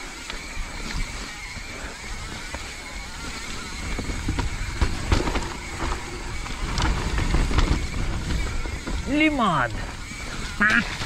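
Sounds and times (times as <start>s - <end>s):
bike rattling with sharp knocks: 0.0s - 11.0s
bike tyres rumbling over roots: 0.0s - 11.0s.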